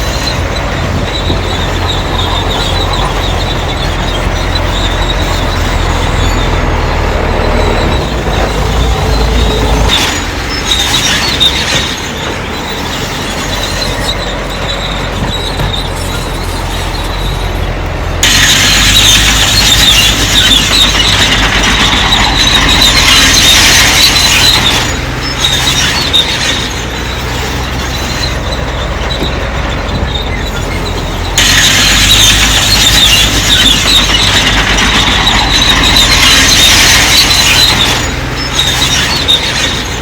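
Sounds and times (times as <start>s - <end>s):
bulldozer engine running: 0.0s - 40.0s
steel tracks squealing: 0.0s - 40.0s.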